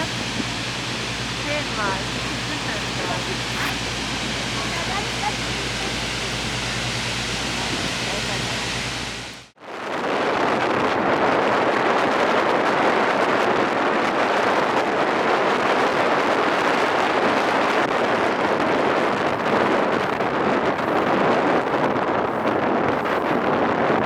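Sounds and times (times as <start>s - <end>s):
boat rushing over water: 0.0s - 23.5s
wind buffeting microphone: 0.0s - 24.0s.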